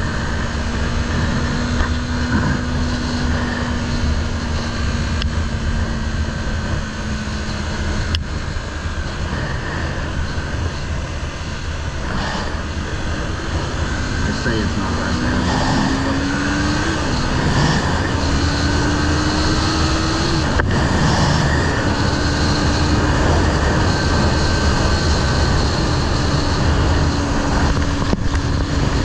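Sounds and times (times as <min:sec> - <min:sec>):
motorcycle engine running: 0:00.0 - 0:29.0
wind rumble on microphone: 0:00.0 - 0:29.0.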